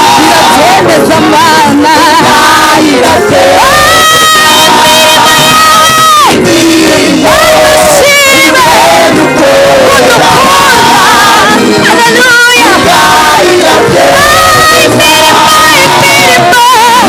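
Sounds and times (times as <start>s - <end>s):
music with singing: 0.0s - 17.0s.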